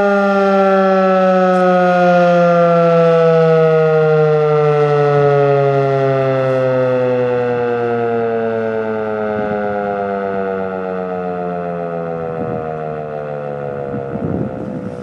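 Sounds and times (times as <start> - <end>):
siren winding down: 0.0 - 15.0.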